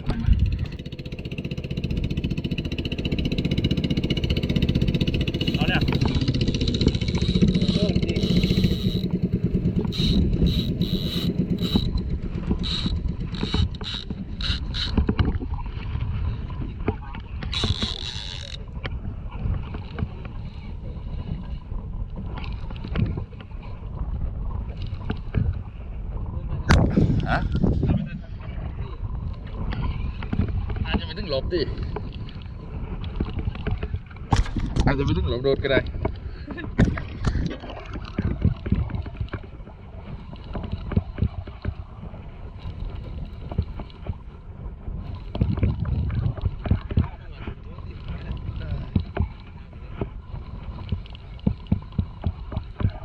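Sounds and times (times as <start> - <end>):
boat engine low rumble: 0.0 - 53.0
water slapping against hull: 0.0 - 53.0
wind on microphone: 0.0 - 53.0.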